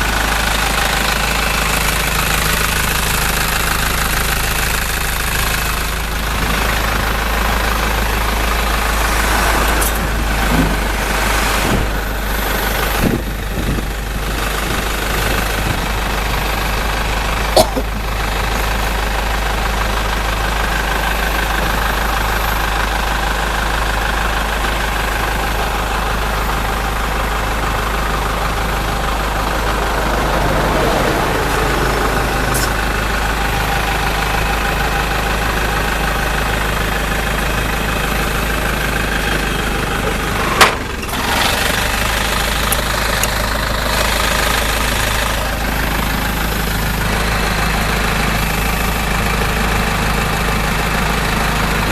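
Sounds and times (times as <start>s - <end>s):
truck engine idling: 0.0s - 51.9s.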